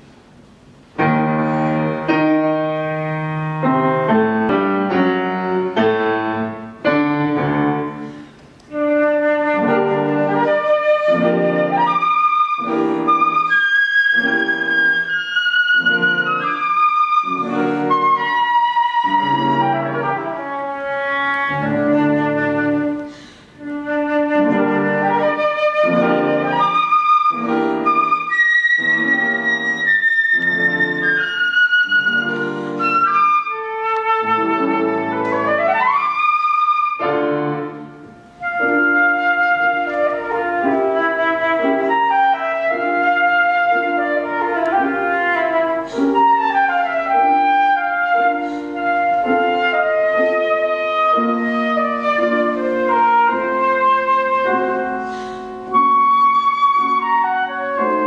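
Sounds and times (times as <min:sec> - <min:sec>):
piano chords: 0:00.0 - 0:58.0
flute melody: 0:01.0 - 0:58.0.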